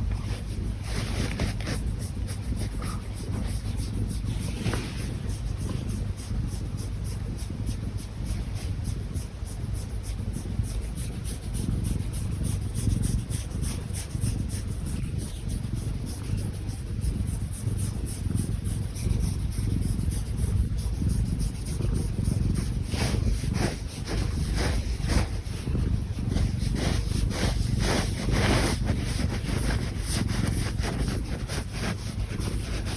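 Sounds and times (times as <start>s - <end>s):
cat snoring: 0.0s - 32.9s.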